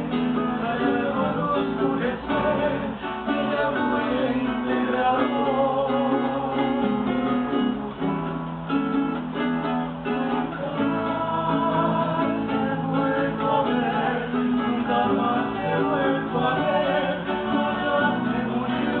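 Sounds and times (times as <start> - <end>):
several voices singing: 0.0 - 8.4, 9.6 - 19.0
strummed string instruments: 0.0 - 19.0.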